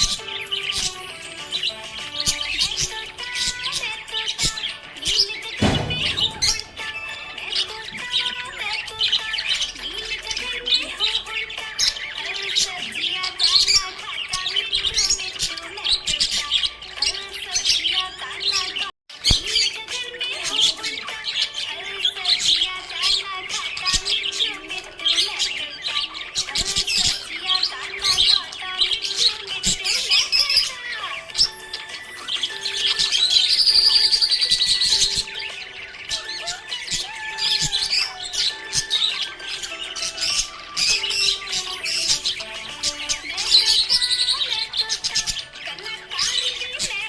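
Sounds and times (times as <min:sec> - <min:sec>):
budgies chirping and squawking: 0:00.0 - 0:47.0.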